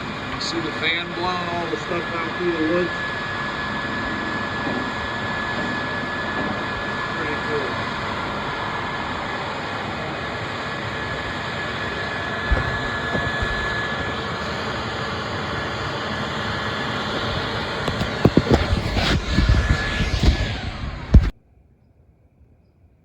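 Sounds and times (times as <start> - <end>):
mower engine and blower fan: 0.0 - 21.3
faint high whine: 0.0 - 21.4.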